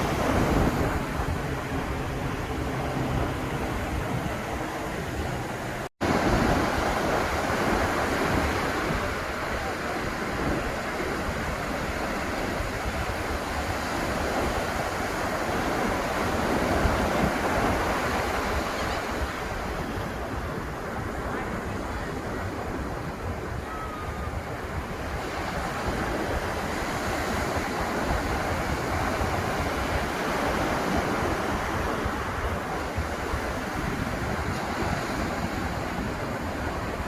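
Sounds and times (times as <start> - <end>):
waves breaking on a beach: 0.0 - 37.0
wind buffeting the microphone: 0.0 - 37.0.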